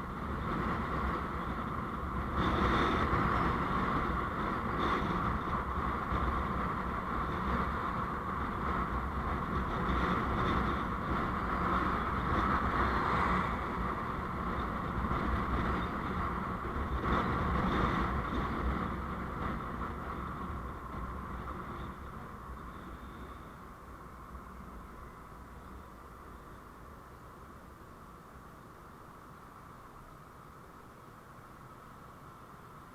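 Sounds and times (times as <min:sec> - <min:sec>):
road noise: 0:00.0 - 0:32.9.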